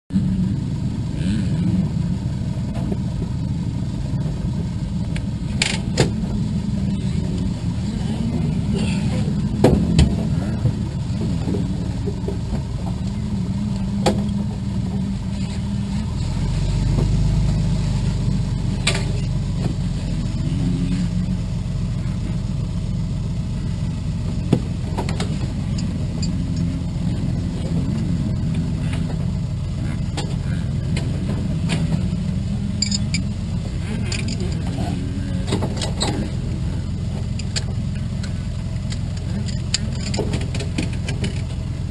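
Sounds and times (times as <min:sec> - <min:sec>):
aircraft engine idling: 0:00.1 - 0:41.9.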